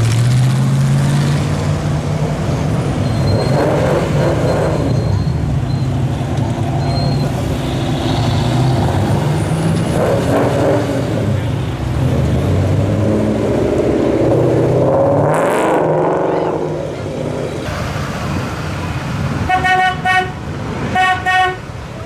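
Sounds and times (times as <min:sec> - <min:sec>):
car engine revving: 0:00.0 - 0:05.0, 0:07.4 - 0:21.3
cars driving past: 0:00.0 - 0:22.0.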